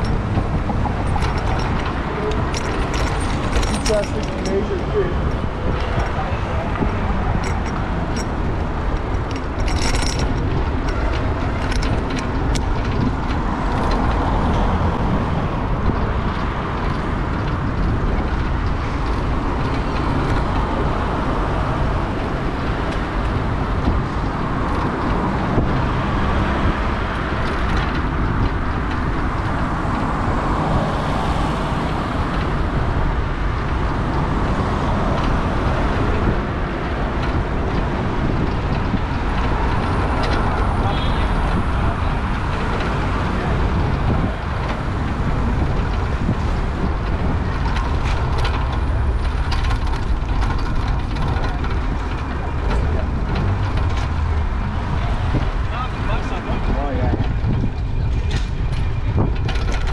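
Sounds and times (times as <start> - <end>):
car traffic: 0.0 - 59.9
road rumble: 0.0 - 59.9
wind noise: 0.0 - 59.9.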